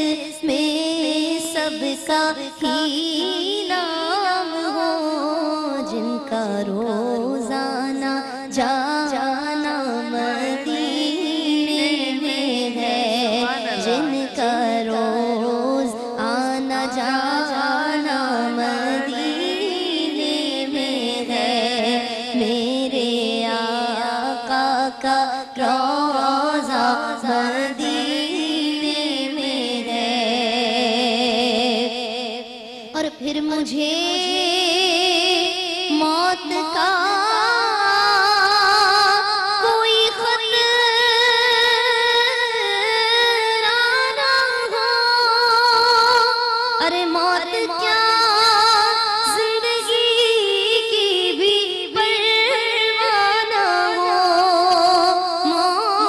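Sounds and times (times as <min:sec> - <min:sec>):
woman singing devotional song: 0:00.0 - 0:56.0.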